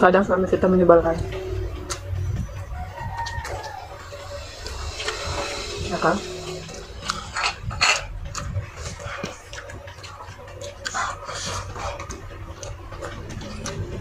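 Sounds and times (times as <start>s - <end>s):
chewing: 1.2s - 14.0s.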